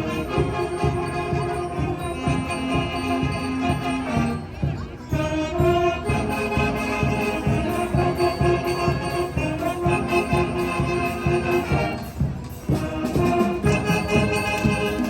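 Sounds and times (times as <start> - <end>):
brass and woodwind chords: 0.0 - 15.0
steady drum beat: 0.0 - 15.0.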